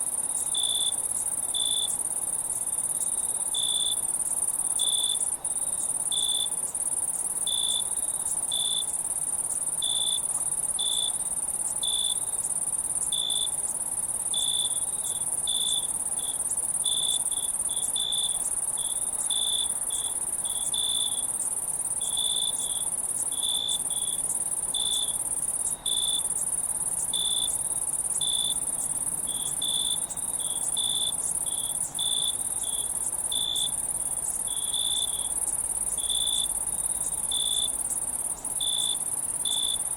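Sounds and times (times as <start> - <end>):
crickets chirping: 0.0 - 39.9
insect trill: 0.0 - 39.9.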